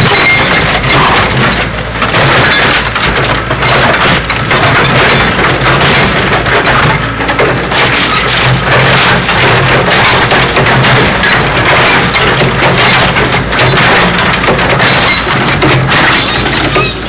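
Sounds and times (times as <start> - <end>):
backhoe engine running: 0.0 - 17.0
metal crunching and crackling: 0.0 - 17.0.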